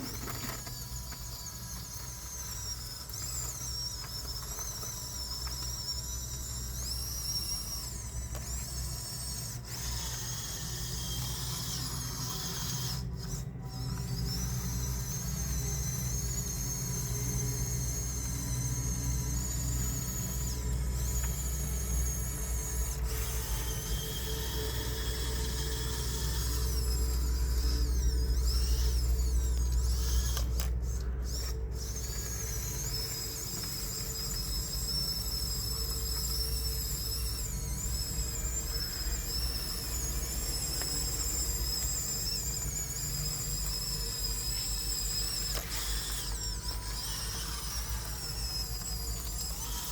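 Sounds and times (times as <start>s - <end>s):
toy bulldozer motors whining: 0.0s - 49.9s.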